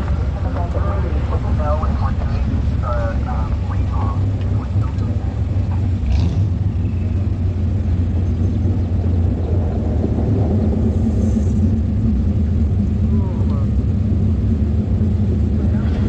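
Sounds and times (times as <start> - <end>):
racing car engine rumbling: 0.0 - 16.0.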